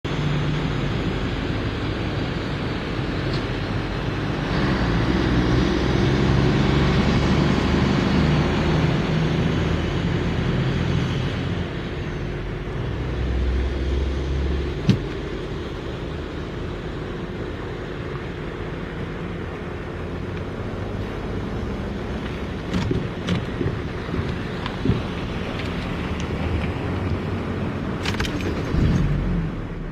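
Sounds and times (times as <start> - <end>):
diesel locomotive engine: 0.0 - 29.9.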